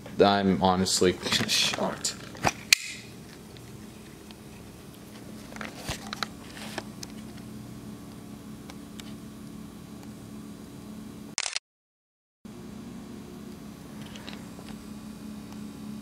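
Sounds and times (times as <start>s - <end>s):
steady low hum: 0.0s - 11.4s, 12.5s - 16.0s.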